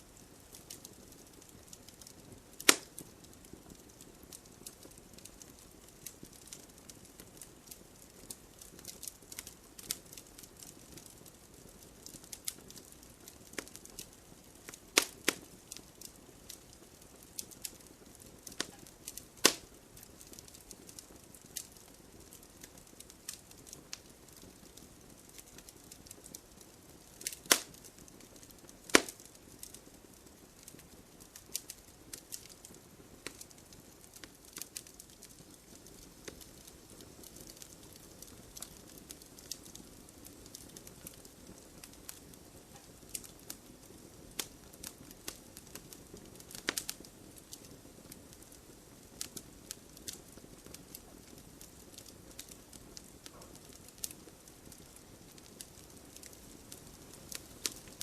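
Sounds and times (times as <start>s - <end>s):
wood fire crackling: 0.0s - 58.0s
loud fire pops: 0.4s - 58.0s.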